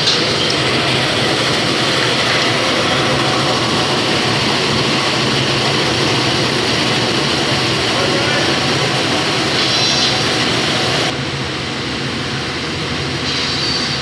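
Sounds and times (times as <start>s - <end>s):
factory machinery running: 0.0s - 14.0s.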